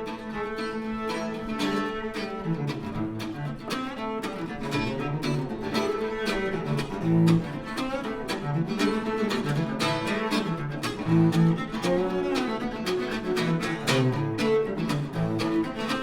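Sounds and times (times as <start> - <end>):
bowed cello notes: 0.0 - 16.0
plucked mandolin notes: 0.0 - 16.0.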